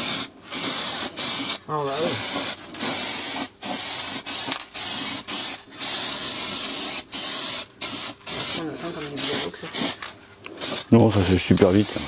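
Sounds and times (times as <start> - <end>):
spray paint can hissing: 0.0 - 12.0.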